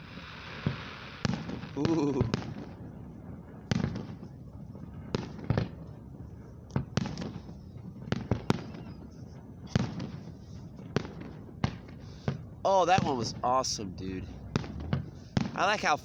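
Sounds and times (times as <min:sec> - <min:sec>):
fireworks bursting bangs: 0:00.0 - 0:16.0.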